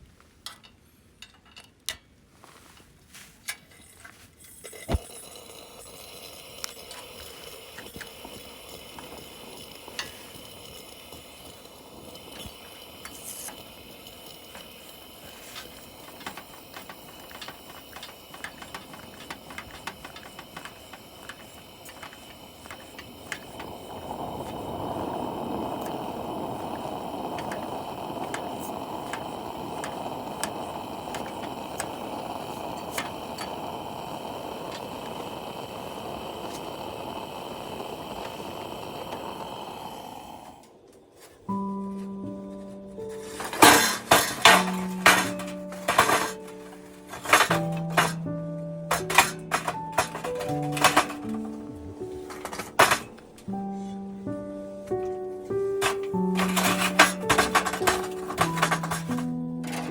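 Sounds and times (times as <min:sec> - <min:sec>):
food sizzling in a hot pan: 0:04.6 - 0:40.7, 0:43.1 - 0:54.4, 0:55.7 - 0:59.9.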